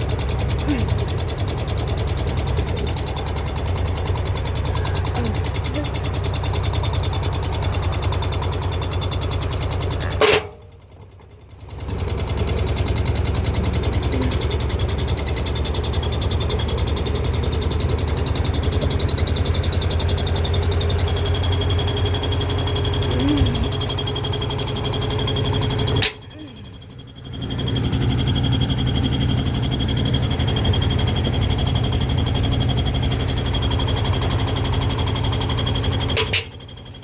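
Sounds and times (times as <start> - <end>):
washing machine humming: 0.0 - 37.0.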